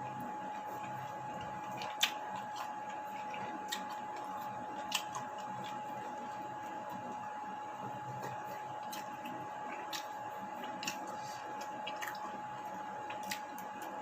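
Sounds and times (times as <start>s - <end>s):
eating noises: 0.5s - 7.1s, 7.8s - 14.0s.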